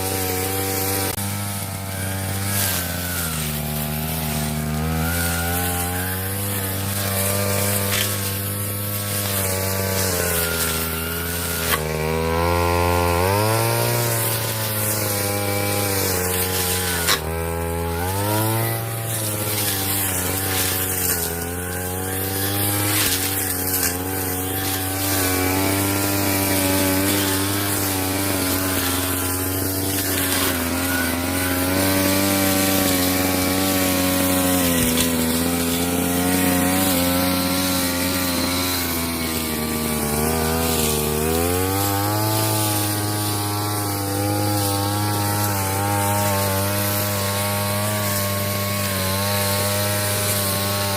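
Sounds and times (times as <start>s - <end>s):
brush cutter engine mowing grass: 0.0s - 50.9s.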